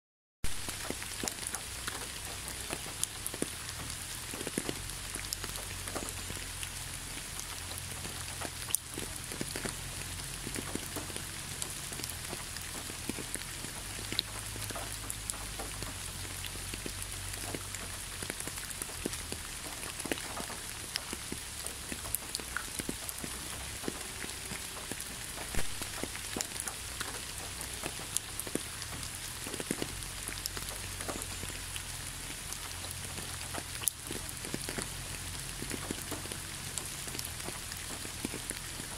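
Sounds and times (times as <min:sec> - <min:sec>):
rain hissing on wet surface: 0:00.4 - 0:38.9.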